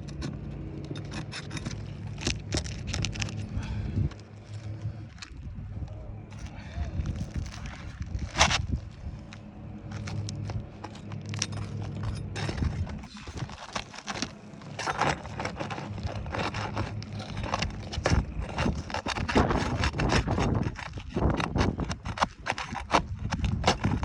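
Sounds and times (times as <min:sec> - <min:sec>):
low steady hum: 0:00.0 - 0:24.0
shingles clicking and scraping: 0:00.0 - 0:24.0.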